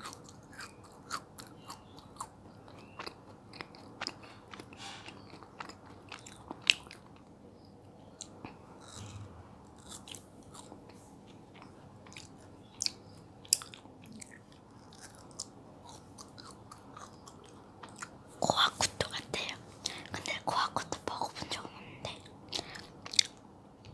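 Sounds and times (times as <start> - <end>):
wet chewing: 0.0 - 7.3, 8.2 - 20.8.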